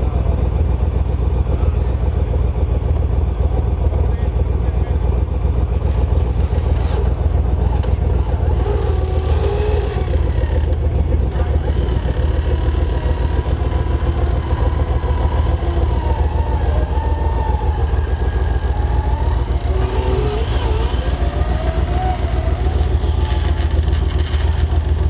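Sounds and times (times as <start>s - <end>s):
engine rumbling: 0.0s - 25.0s.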